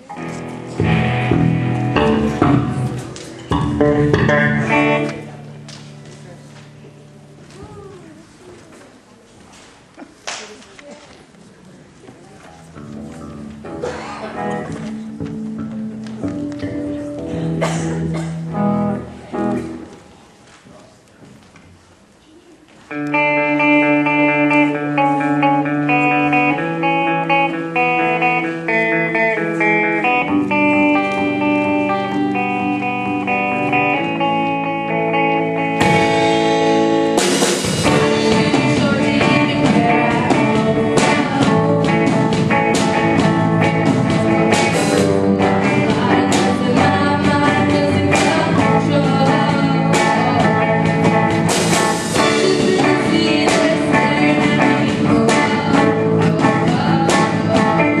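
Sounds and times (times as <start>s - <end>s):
live rock band playing: 0.0s - 7.7s, 12.8s - 20.0s, 22.9s - 58.0s
held guitar chords: 0.0s - 8.2s, 12.6s - 20.2s, 22.9s - 58.0s.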